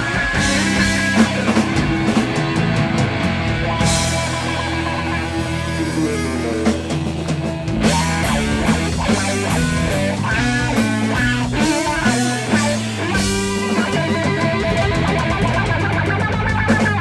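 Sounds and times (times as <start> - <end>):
drums and cymbals: 0.0 - 17.0
electric guitar riff: 0.0 - 17.0.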